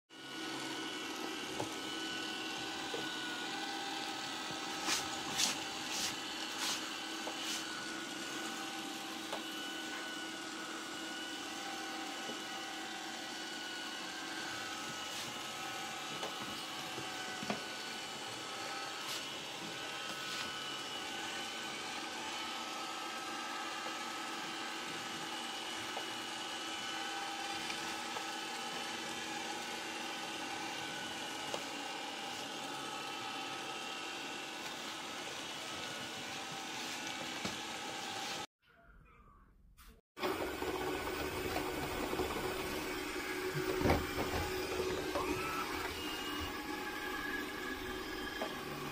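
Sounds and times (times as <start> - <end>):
robot vacuum whirring: 0.2 - 38.5, 40.2 - 48.9.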